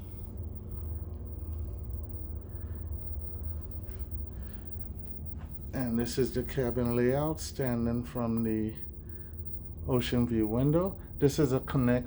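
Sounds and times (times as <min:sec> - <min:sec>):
low rumble with faint hiss: 0:00.0 - 0:12.0.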